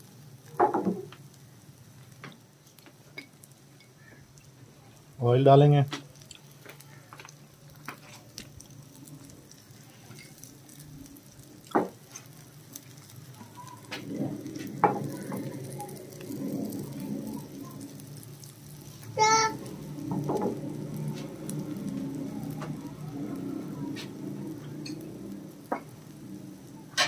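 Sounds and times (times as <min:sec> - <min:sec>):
oil sizzling and crackling: 0:00.0 - 0:27.0.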